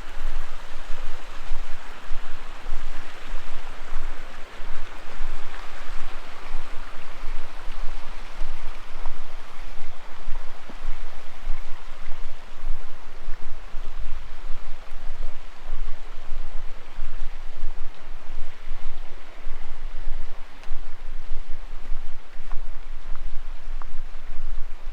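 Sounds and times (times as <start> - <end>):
creek water rushing: 0.0 - 24.9
low rumble on microphone: 0.0 - 24.9.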